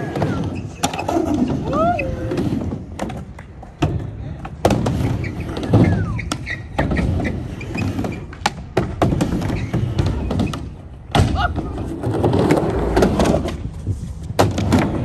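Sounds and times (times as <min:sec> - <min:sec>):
skateboard wheels rumbling: 0:00.0 - 0:15.0.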